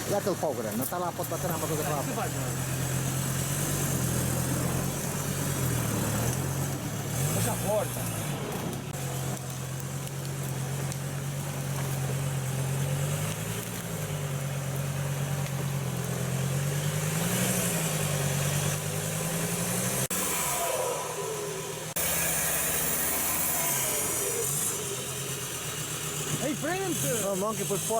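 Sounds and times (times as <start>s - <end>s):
diesel engine revving: 0.0s - 27.9s.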